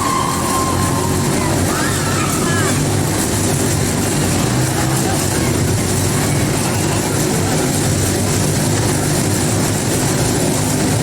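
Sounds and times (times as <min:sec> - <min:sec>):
motorcycle engines droning: 0:00.0 - 0:11.0.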